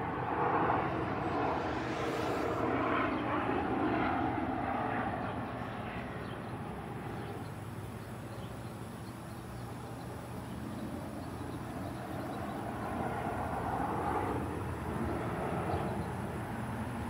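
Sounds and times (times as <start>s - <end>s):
distant jet aircraft rumble: 0.0s - 17.0s.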